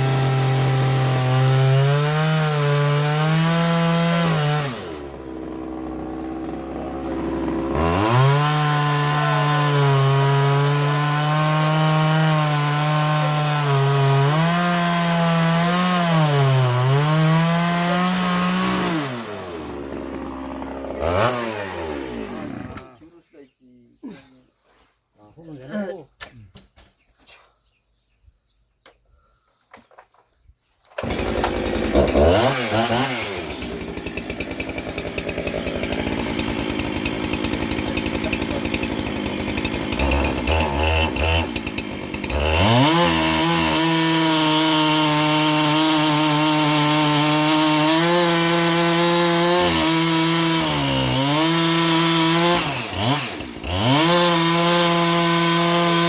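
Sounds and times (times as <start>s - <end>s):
power tool cutting wood: 0.0s - 23.0s, 31.0s - 56.0s.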